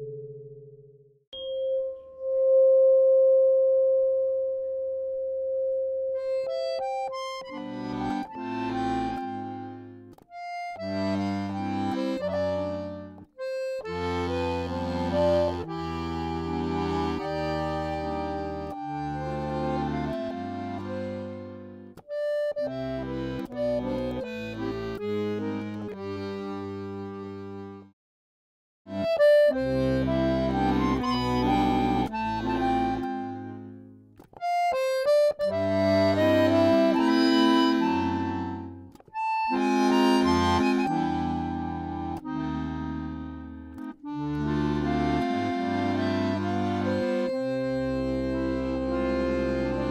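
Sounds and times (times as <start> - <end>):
accordion melody: 6.2 - 28.0, 28.9 - 49.9.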